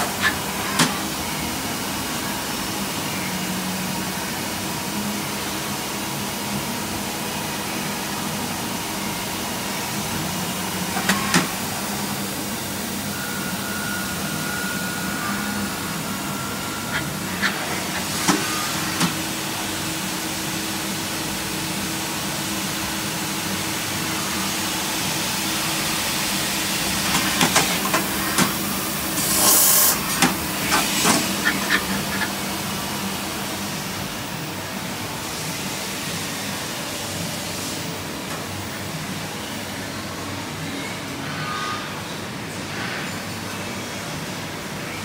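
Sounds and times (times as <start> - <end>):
lathe machine hum with hiss: 0.0 - 45.0.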